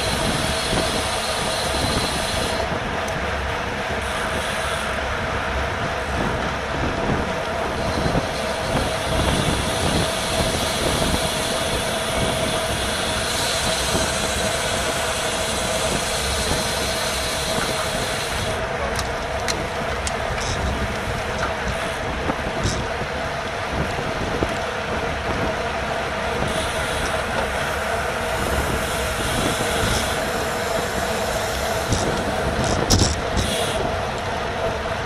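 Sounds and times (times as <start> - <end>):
bicycle road and drivetrain noise: 0.0 - 35.0
steady hum: 0.0 - 35.0
wind rushing over microphone: 5.4 - 35.0.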